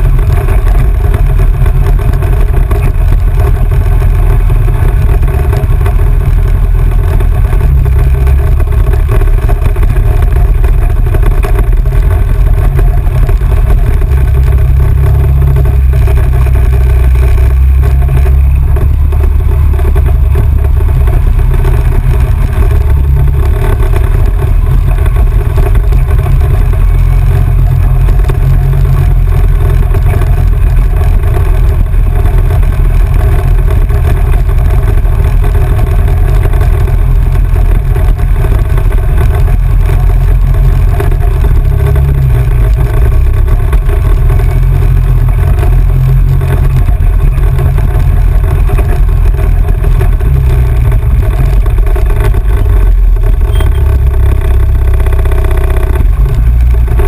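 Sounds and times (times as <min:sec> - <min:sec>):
off-road vehicle engine running: 0:00.0 - 0:57.0
wind noise on microphone: 0:00.0 - 0:57.0.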